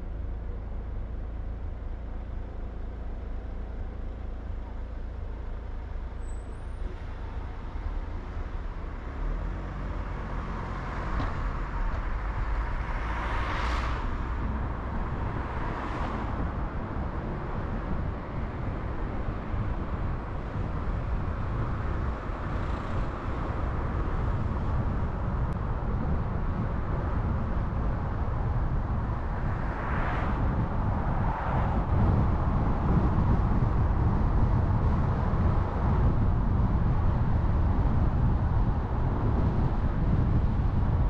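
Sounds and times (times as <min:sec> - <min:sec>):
car road noise rumble: 0:00.0 - 0:41.0.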